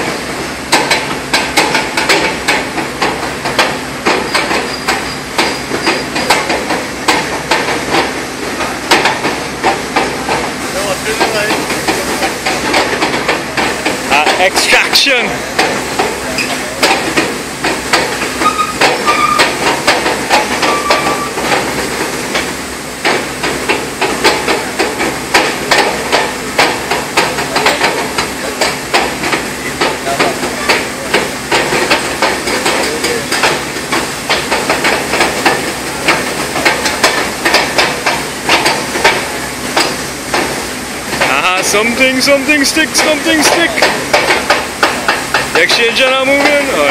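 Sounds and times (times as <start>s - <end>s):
rapid irregular knocking: 0.0s - 46.9s
steady industrial hiss: 0.0s - 46.9s.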